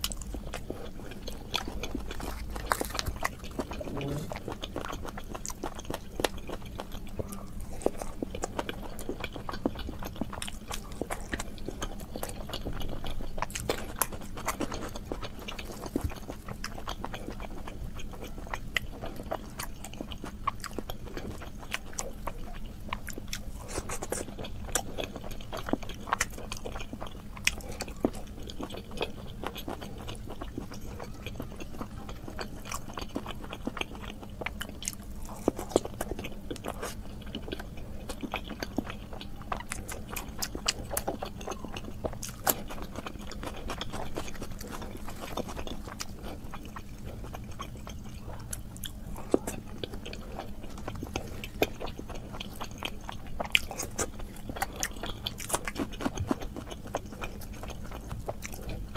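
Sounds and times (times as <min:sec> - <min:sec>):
eating and chewing sounds: 0:00.0 - 0:58.9
faint steady hum: 0:00.0 - 0:58.9.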